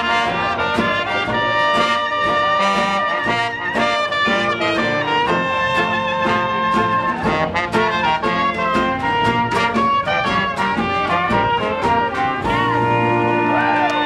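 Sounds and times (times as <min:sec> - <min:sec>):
jazz street band playing: 0:00.0 - 0:14.0.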